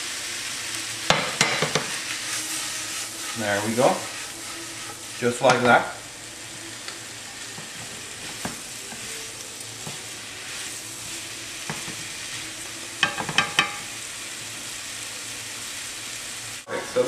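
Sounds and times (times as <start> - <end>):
food sizzling in a skillet: 0.0 - 17.0.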